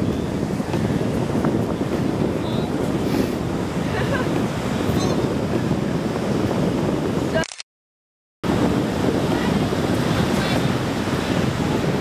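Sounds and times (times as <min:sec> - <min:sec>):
ocean surf: 0:00.0 - 0:07.4, 0:08.4 - 0:12.0
wind buffeting microphone: 0:00.0 - 0:07.4, 0:08.4 - 0:12.0.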